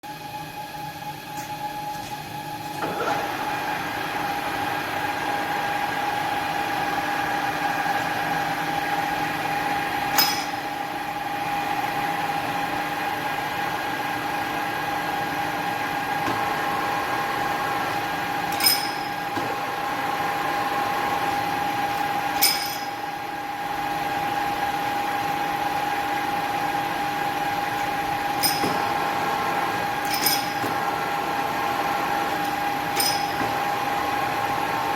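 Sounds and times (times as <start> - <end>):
lathe whining: 2.8 - 34.9.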